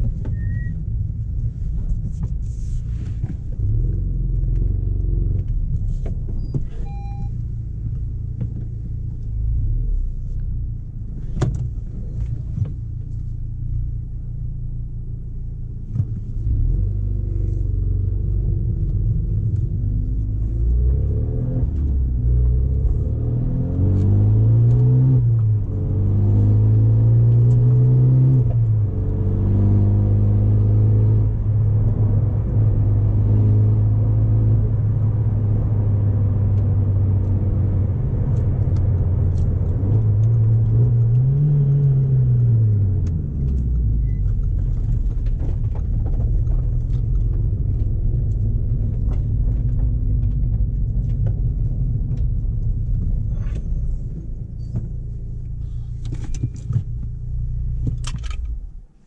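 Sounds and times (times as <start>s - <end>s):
car engine and exhaust: 0.0s - 59.0s.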